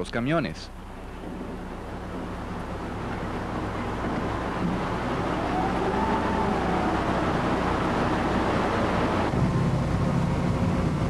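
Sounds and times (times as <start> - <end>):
diesel engines running: 0.0 - 11.0
hydraulic whine: 0.8 - 10.9.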